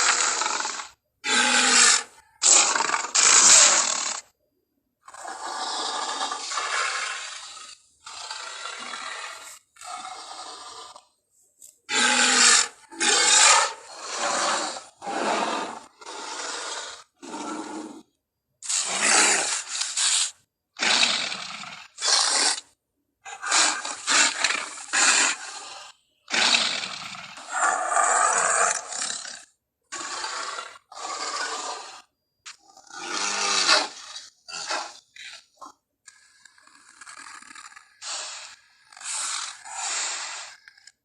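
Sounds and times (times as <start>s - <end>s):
gorilla rough calls: 0.0s - 4.3s, 5.0s - 11.0s, 11.9s - 40.9s.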